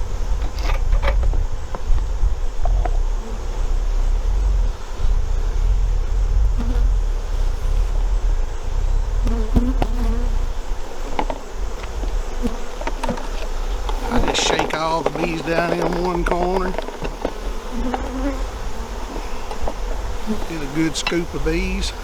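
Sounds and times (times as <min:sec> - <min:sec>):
bee buzzing close past: 0:00.0 - 0:22.0
honeybees buzzing: 0:00.0 - 0:22.0
steady low rumble: 0:00.0 - 0:22.0.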